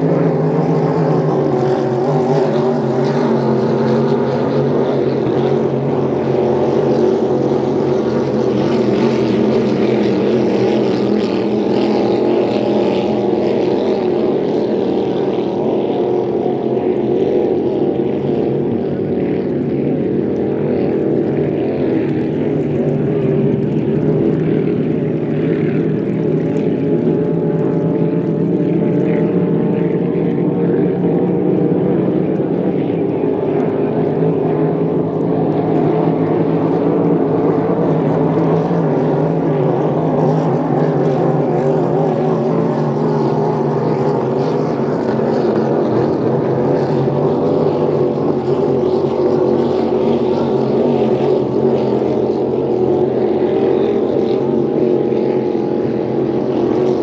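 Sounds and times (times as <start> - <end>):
racing boat engines droning: 0.0 - 57.0.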